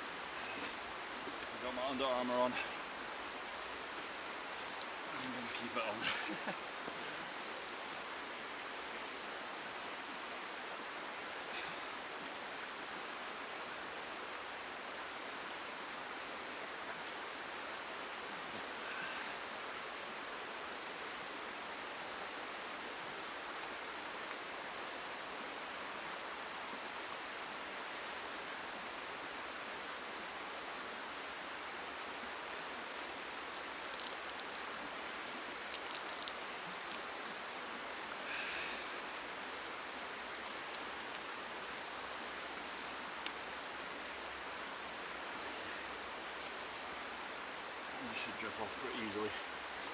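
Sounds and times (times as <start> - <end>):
river flowing: 0.0 - 49.9.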